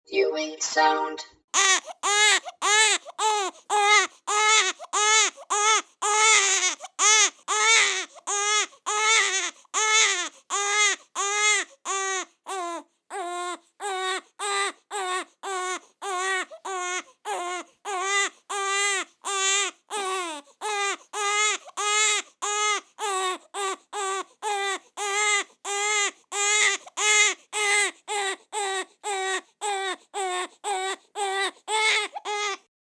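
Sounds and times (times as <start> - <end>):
newborn baby crying: 1.6 - 32.7.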